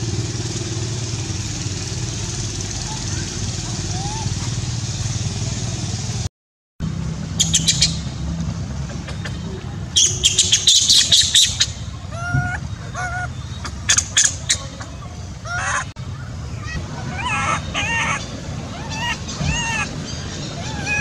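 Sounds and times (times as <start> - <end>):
birds chirping: 0.0 - 6.2, 7.1 - 21.0.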